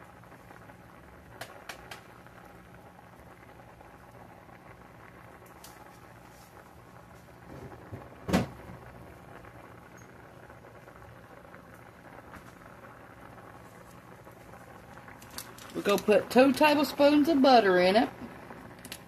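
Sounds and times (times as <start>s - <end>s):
water boiling in a saucepan: 0.0s - 19.0s.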